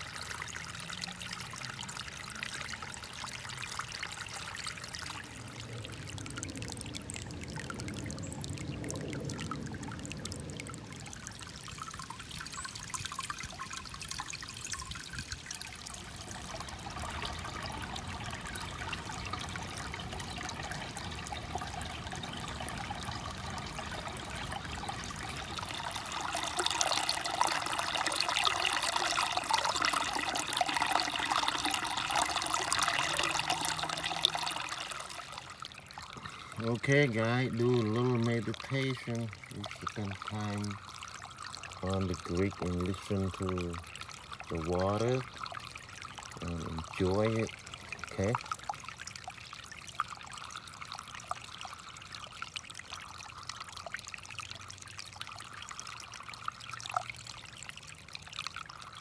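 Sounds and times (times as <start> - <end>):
creek trickling over stones: 0.0 - 59.0.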